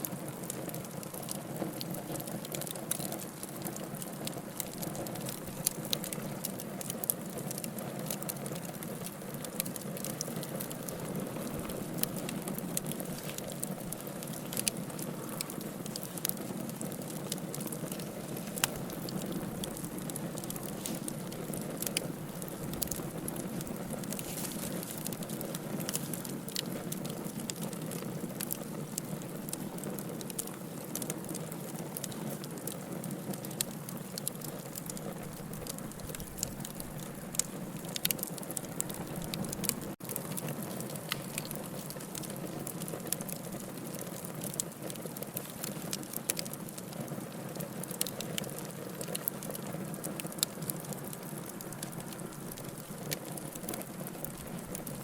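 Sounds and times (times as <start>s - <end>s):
fire crackling and popping: 0.0s - 55.0s
fire flames rushing: 0.2s - 55.0s.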